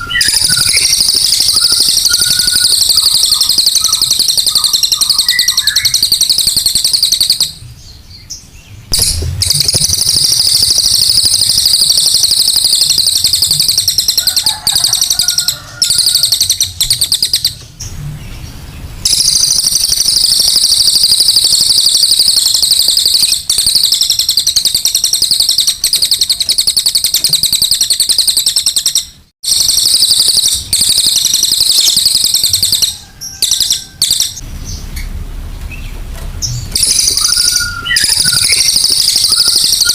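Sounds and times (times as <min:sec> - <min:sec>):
songbird singing rapid notes: 0:00.0 - 0:29.2, 0:29.8 - 0:39.9.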